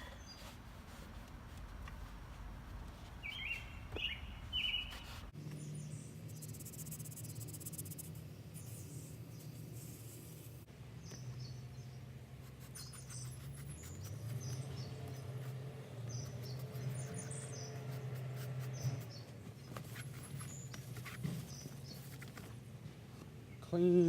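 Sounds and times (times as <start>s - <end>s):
small birds chirping: 0.0s - 0.6s, 3.2s - 22.8s.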